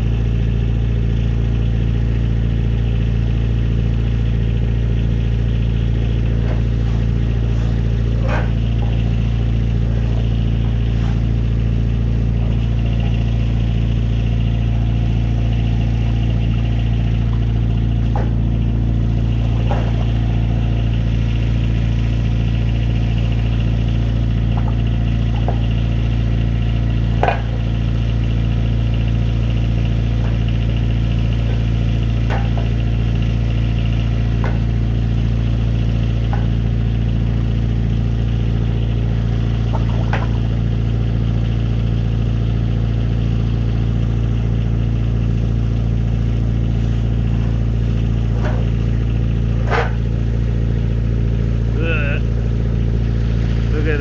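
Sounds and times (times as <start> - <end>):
engine and pump droning: 0.0 - 54.0.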